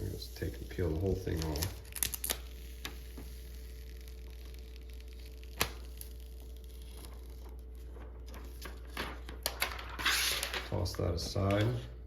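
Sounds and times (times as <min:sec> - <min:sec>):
steady low hum: 0:00.0 - 0:10.0
plastic film peeling: 0:00.3 - 0:10.8.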